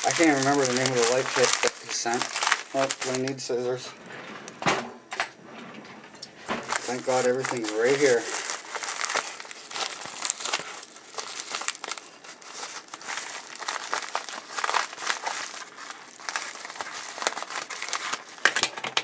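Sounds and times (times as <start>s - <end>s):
envelope crinkling and rustling: 0.0s - 4.0s, 6.5s - 19.0s.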